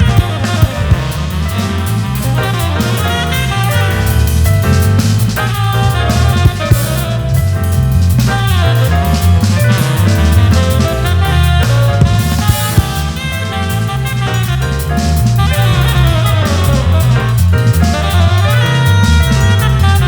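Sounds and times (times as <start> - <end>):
live jazz-funk band playing: 0.0 - 20.0.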